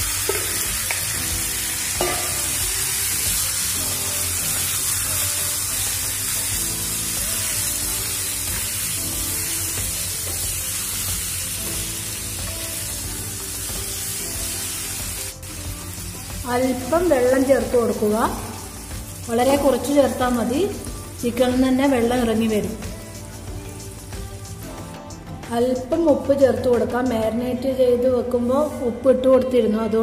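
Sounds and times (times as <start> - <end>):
chicken sizzling in hot oil: 0.0 - 24.7
background music: 0.0 - 30.0.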